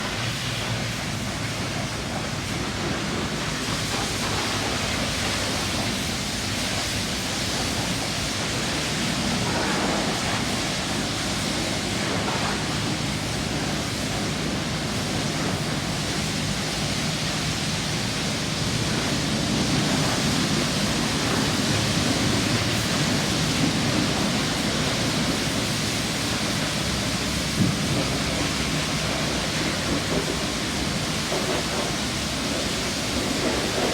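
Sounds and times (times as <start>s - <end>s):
car wash water spray rushing: 0.0s - 33.9s.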